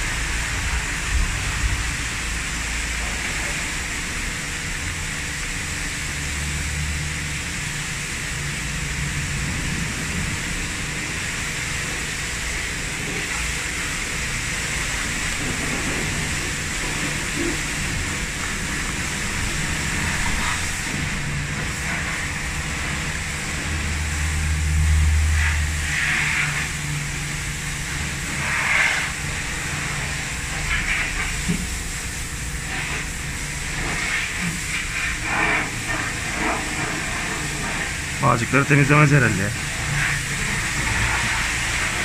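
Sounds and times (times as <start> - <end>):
machine-like hiss and rumble: 0.0 - 42.0.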